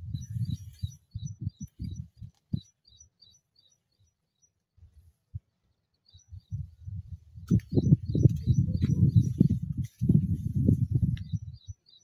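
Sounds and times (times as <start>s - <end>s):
small bird chirping: 0.0s - 4.6s, 5.7s - 12.0s.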